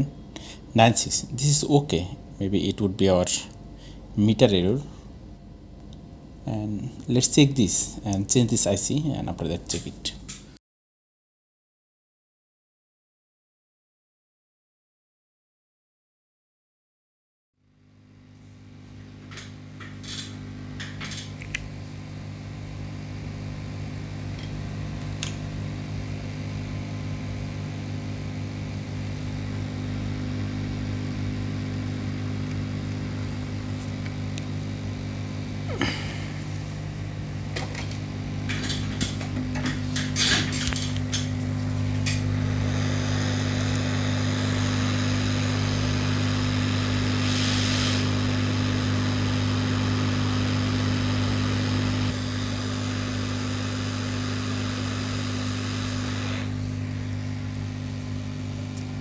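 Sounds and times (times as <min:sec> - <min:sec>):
hot air blower humming: 0:00.0 - 0:10.1, 0:18.3 - 0:59.0.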